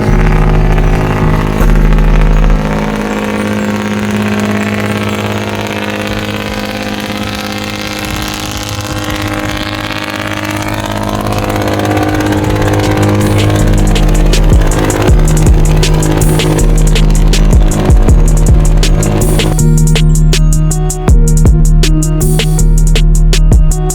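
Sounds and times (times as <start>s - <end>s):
boat engine rumble: 0.0s - 23.9s.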